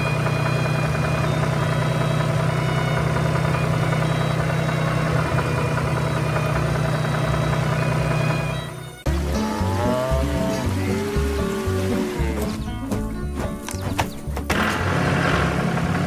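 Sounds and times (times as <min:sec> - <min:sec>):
heavy vehicle engine idling: 0:00.0 - 0:16.0.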